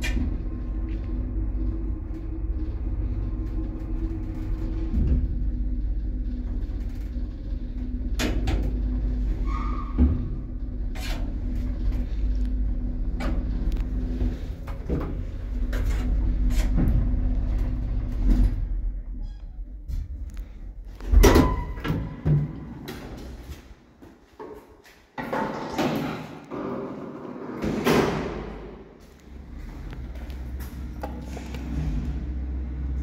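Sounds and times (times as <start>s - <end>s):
lift humming and rumbling: 0.0s - 24.8s, 26.4s - 33.0s.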